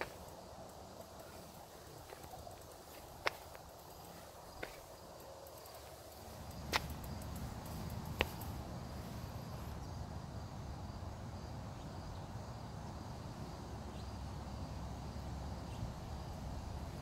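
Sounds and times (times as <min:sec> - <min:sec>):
faint insects chirping: 0:00.0 - 0:17.0.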